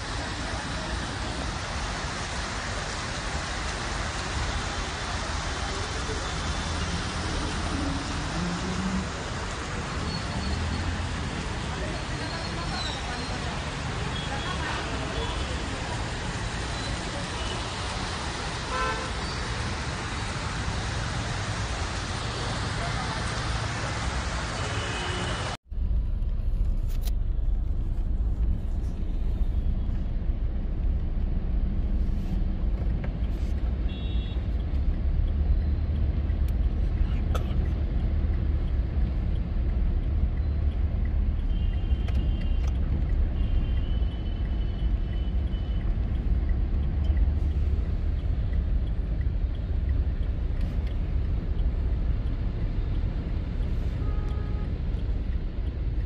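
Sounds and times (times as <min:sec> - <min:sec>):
car driving through floodwater: 0:00.0 - 0:56.0
other traffic: 0:00.0 - 0:56.0.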